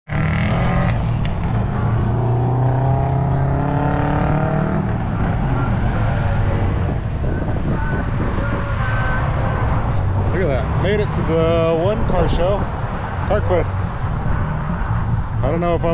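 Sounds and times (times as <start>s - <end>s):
vehicle engine rumbling: 0.1s - 15.9s.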